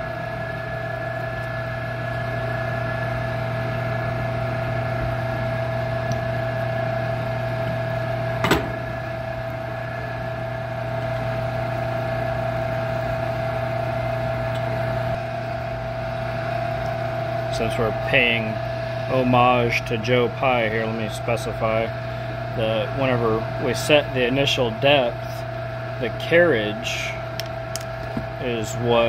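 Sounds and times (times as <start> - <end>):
metal lathe humming and whining: 0.0 - 29.0.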